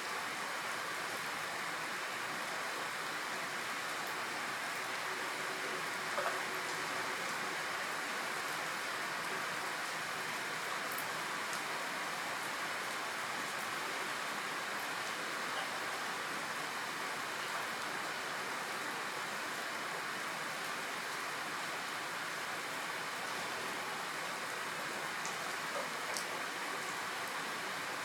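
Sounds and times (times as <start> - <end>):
rain falling: 0.1 - 28.0.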